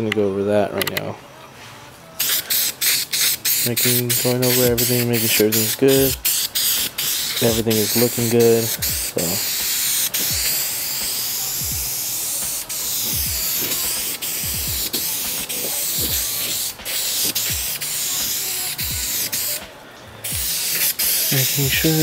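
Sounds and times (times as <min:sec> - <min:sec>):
aerosol spray can hissing: 0:02.2 - 0:22.0.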